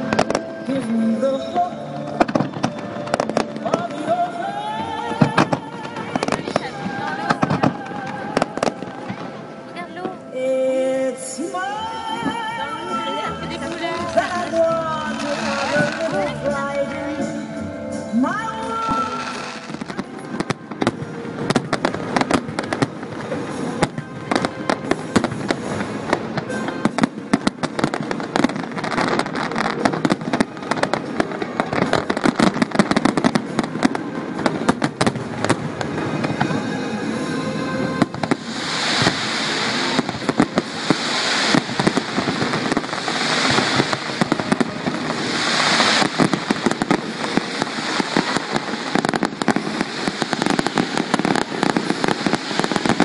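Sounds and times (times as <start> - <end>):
fireworks bangs and crackling: 0.0 - 10.2, 11.8 - 53.0
music: 0.0 - 53.0.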